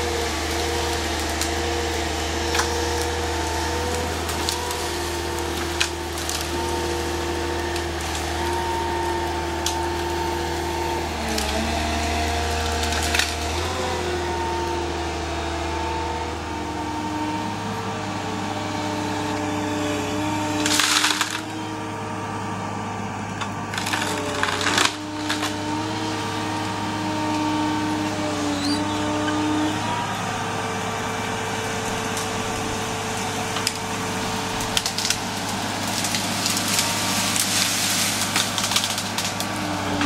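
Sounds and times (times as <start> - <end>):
machine engine and hydraulics: 0.0 - 40.0
wood cracking and splintering: 0.0 - 40.0.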